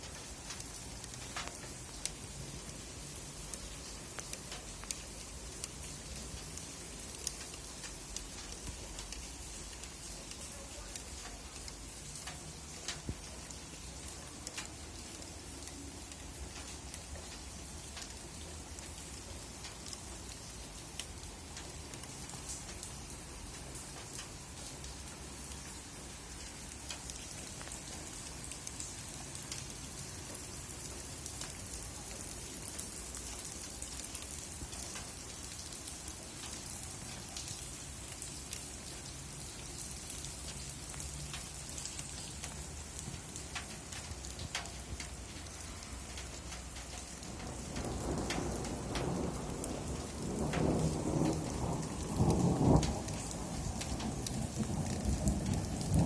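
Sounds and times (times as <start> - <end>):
rain falling on a surface: 0.0 - 56.0.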